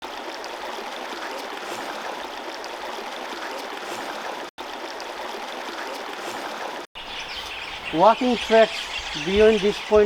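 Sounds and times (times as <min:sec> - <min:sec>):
stream water running: 0:00.0 - 0:10.0.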